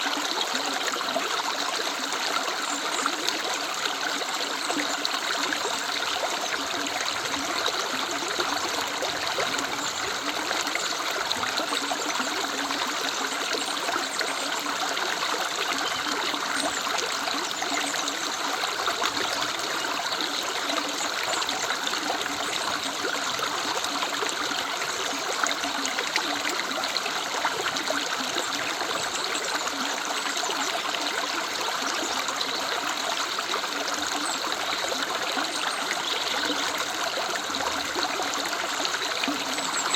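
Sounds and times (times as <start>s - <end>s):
river water running over stones: 0.0s - 39.9s.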